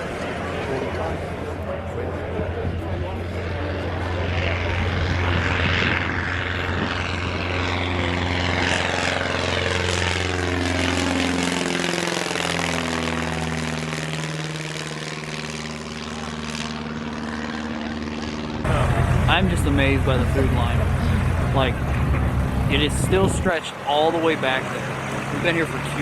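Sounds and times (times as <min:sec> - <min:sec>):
propeller airplane flying past: 0:00.0 - 0:26.0.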